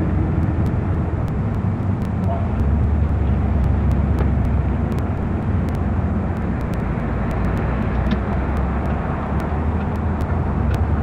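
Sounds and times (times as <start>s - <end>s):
car engine and tyres: 0.0s - 11.0s
street traffic rumble: 0.0s - 11.0s
trucks and bus passing: 0.0s - 11.0s.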